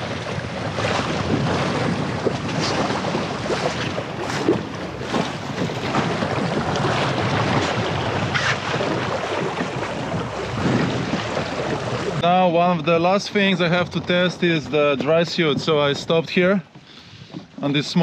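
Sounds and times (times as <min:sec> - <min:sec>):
water splashing along hull: 0:00.0 - 0:18.0
wind buffeting microphone: 0:00.0 - 0:18.0.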